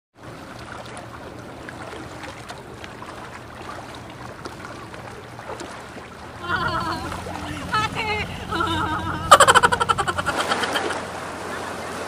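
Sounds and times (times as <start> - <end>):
low steady hum: 0.2 - 12.0
small splashes: 0.2 - 12.0
water lapping around rocks: 0.2 - 12.0.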